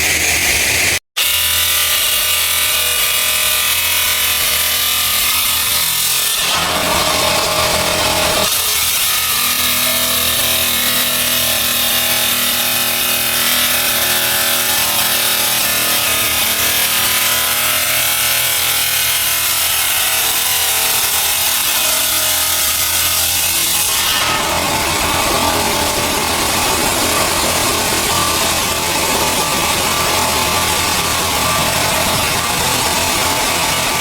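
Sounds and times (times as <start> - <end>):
machine cutting stone: 0.0 - 34.0.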